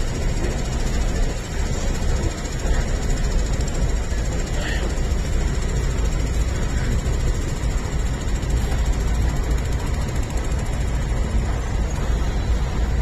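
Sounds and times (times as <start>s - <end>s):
electric train rumble from inside: 0.0s - 13.0s.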